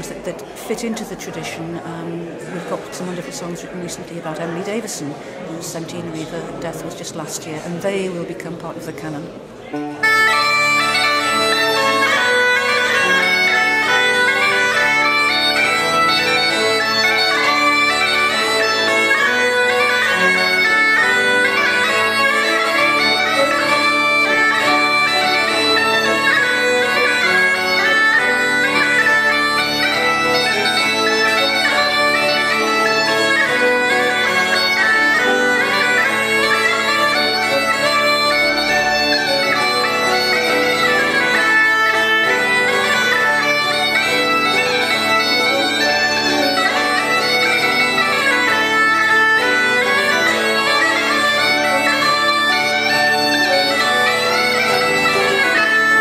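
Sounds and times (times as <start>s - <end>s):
accordion: 0.0s - 56.0s
bagpipes with drone: 9.9s - 56.0s.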